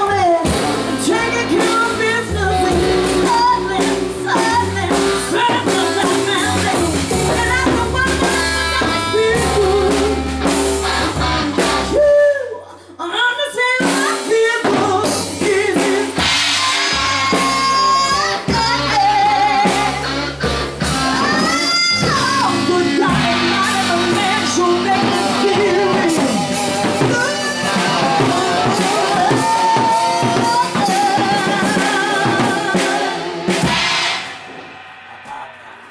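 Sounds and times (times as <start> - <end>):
drum kit beat: 0.0 - 12.2, 13.8 - 35.9
bass: 0.0 - 12.8, 13.4 - 34.3
person singing: 0.0 - 35.9.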